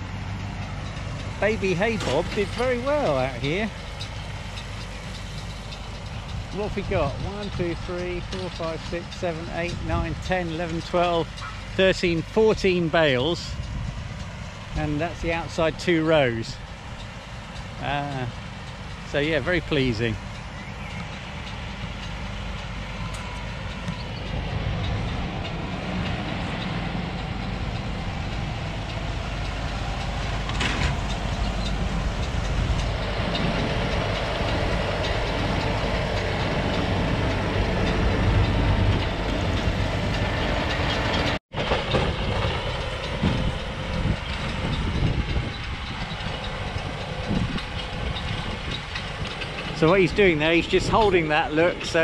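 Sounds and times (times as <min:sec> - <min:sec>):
tractor engine running: 0:00.0 - 0:52.0
baler mechanical clatter: 0:00.2 - 0:52.0.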